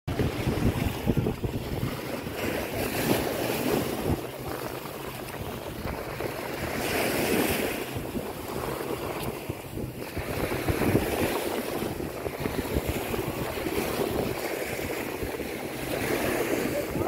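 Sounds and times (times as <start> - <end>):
surf washing on a beach: 0.1 - 17.0
wind buffeting the microphone: 0.1 - 17.0.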